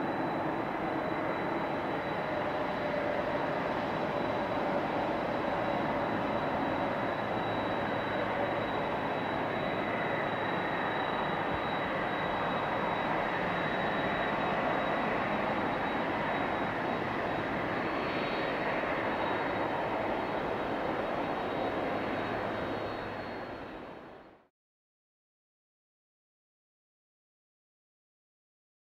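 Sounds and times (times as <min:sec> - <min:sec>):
jet engines running: 0:00.0 - 0:24.4.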